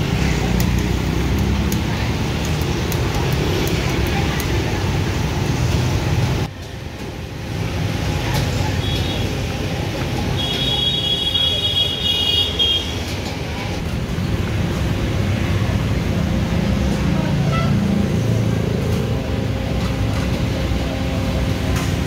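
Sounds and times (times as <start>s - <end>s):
gas burners roaring: 0.0s - 22.0s
street traffic hum: 0.0s - 22.0s.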